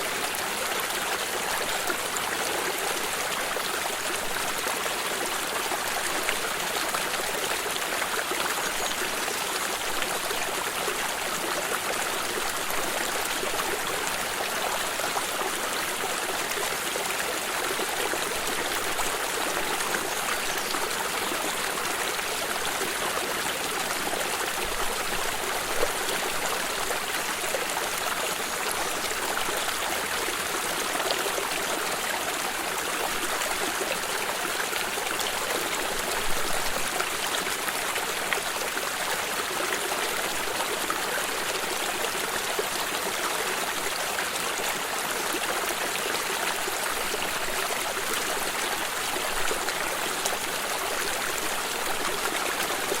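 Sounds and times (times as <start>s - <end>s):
stream rushing over stones: 0.0s - 53.0s.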